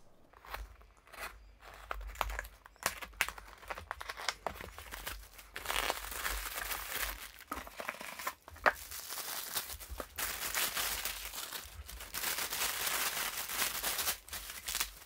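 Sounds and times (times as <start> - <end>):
packing paper crinkling: 1.7 - 15.0.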